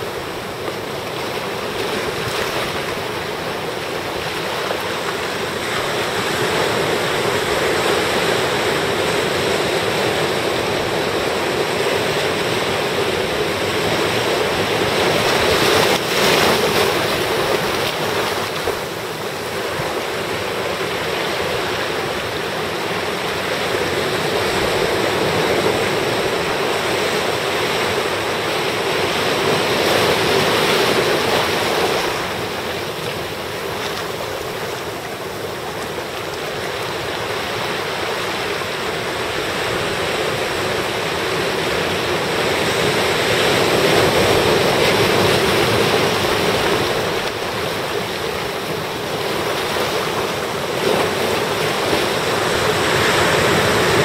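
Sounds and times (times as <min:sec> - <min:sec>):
ocean surf washing over rocks: 0:00.0 - 0:54.0.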